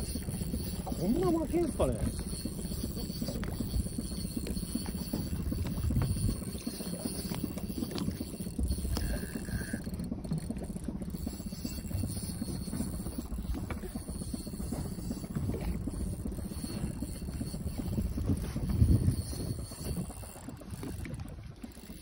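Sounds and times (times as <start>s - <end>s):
boat low rumbling: 0.0s - 22.0s.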